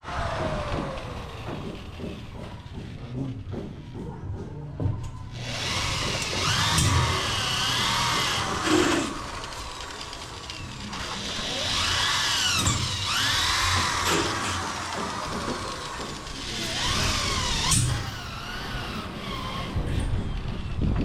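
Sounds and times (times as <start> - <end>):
power drill running: 0.1 - 3.0, 5.3 - 20.5.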